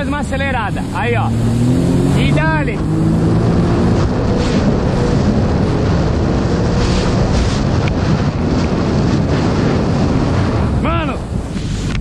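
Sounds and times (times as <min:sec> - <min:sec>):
jet ski engine at full throttle: 0:00.0 - 0:12.0
wind noise on microphone: 0:00.0 - 0:12.0.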